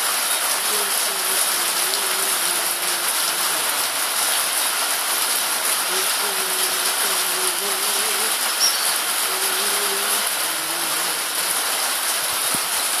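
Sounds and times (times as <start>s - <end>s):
rain on pavement: 0.0s - 13.0s.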